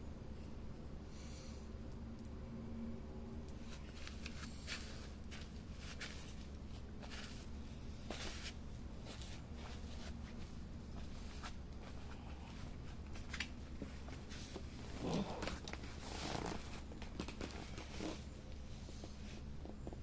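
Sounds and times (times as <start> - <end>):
wood fire crackling: 0.2 - 20.0.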